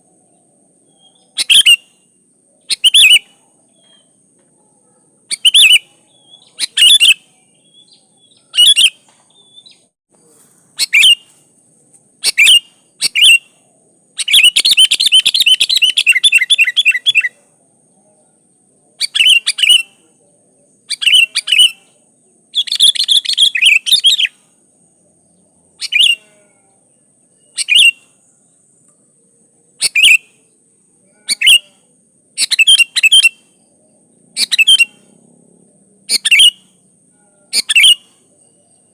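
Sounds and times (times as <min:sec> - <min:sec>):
bird chirping: 0:00.2 - 0:11.4, 0:12.2 - 0:35.3, 0:36.1 - 0:38.9.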